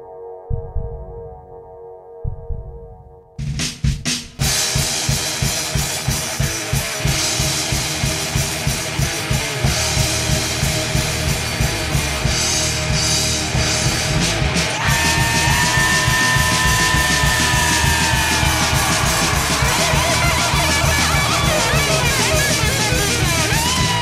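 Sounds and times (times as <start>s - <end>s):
drum kit pounding beat: 3.4s - 24.0s
thrash metal band playing: 3.6s - 24.0s
distorted electric guitars: 4.4s - 24.0s.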